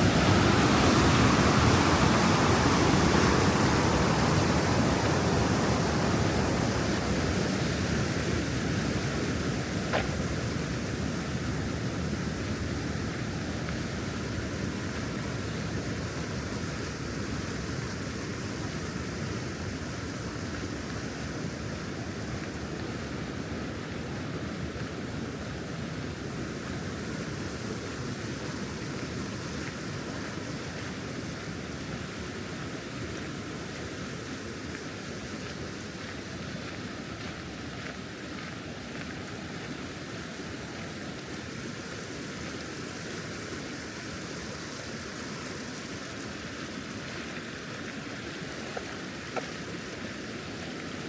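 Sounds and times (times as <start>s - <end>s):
steady outdoor rushing noise: 0.0s - 51.0s.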